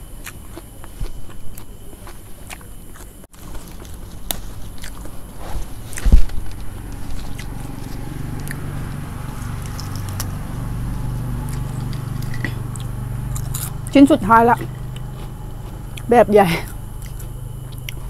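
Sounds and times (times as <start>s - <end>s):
chewing and crunching food: 0.0s - 18.0s
low steady hum: 0.0s - 18.0s.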